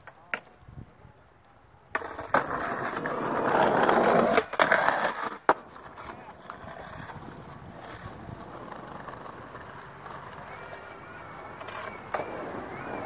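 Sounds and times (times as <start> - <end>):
skateboard wheels rolling on pavement: 0.0 - 13.0.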